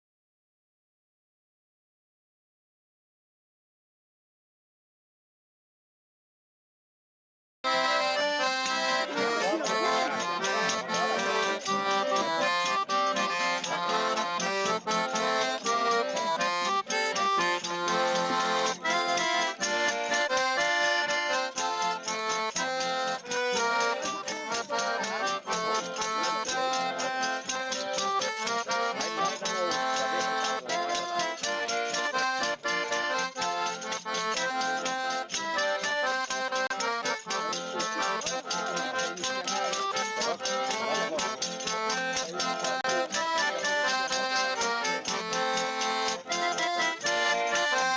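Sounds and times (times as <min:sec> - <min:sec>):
accordion playing folk tune: 0:07.6 - 0:47.9.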